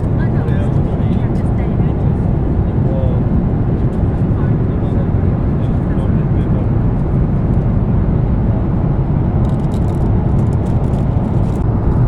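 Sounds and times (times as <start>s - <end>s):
airliner engine and airflow rumble: 0.0s - 12.0s.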